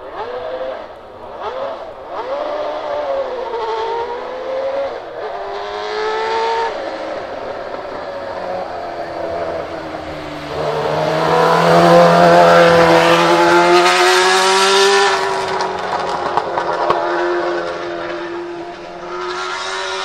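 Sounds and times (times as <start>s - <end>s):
race car engine accelerating past: 0.2s - 20.0s.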